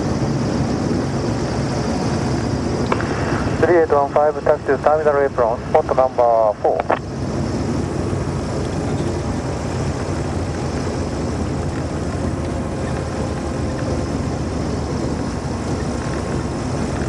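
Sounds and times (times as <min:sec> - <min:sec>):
light aircraft engine and propeller: 0:00.0 - 0:17.0.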